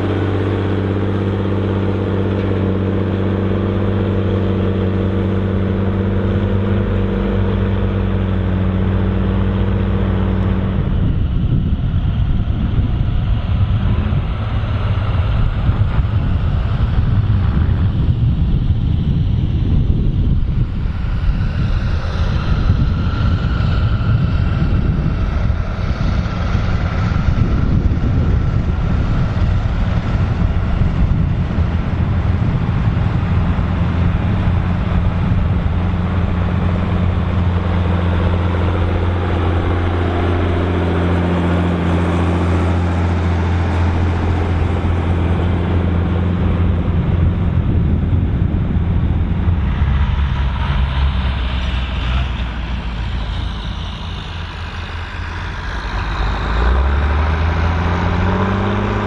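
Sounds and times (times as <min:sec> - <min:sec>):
tractor diesel engine running: 0:00.0 - 0:59.0
wind noise on microphone: 0:00.0 - 0:59.0.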